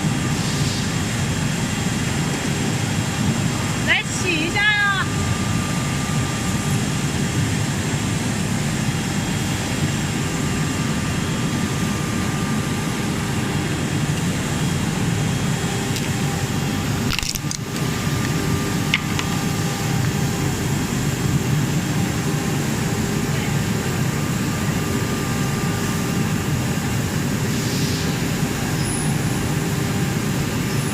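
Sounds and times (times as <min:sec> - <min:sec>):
high-pitched machine whines: 0:00.0 - 0:30.9
low machine rumble: 0:00.0 - 0:30.9.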